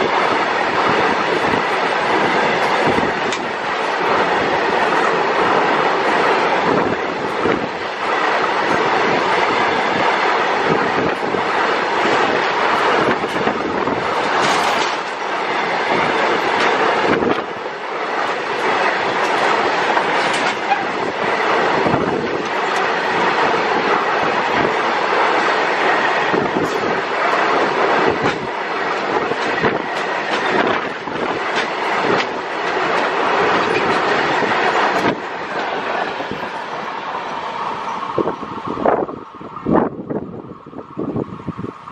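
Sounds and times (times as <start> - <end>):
wheels clacking over rail joints: 0.0 - 39.0
train wheels rushing on rails: 0.0 - 41.9.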